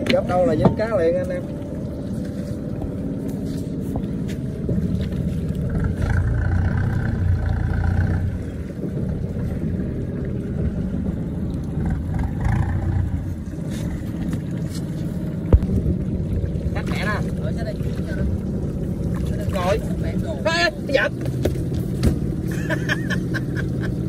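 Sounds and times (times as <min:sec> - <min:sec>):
small boat engine rumbling: 0:00.0 - 0:24.0.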